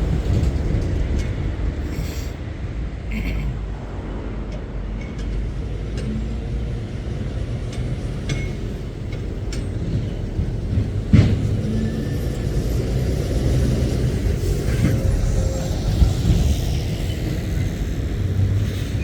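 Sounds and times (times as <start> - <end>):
lorries driving past: 0.0 - 19.0.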